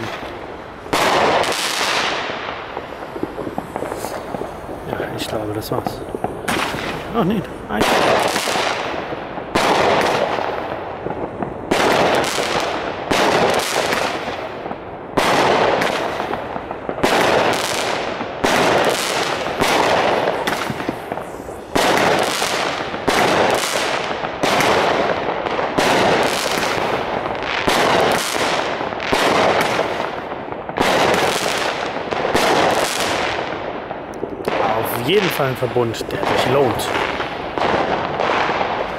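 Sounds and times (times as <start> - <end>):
crackling sparks: 0.0 - 38.9
firework shots: 0.0 - 38.9.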